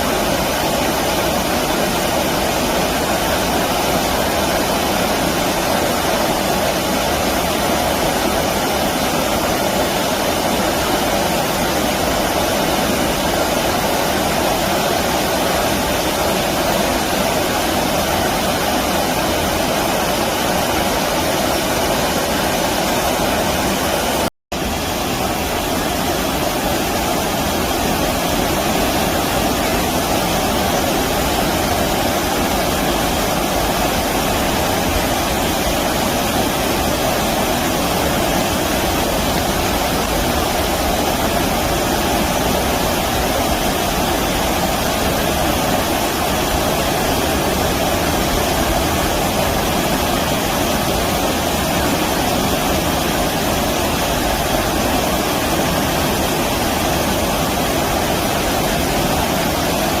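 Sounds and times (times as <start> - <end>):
stream water rushing over rocks: 0.0 - 60.0.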